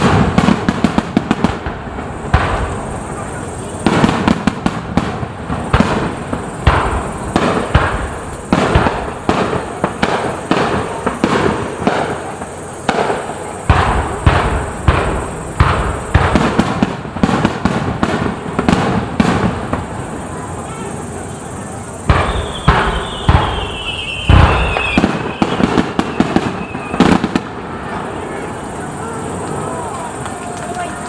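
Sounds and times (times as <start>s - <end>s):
deep fireworks booms: 0.0s - 31.0s
fireworks bangs: 0.0s - 31.0s.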